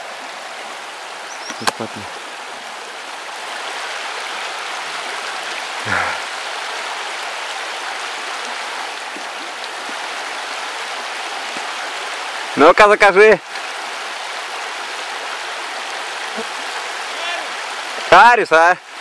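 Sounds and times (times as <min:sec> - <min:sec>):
water rushing over riffle: 0:00.0 - 0:19.0.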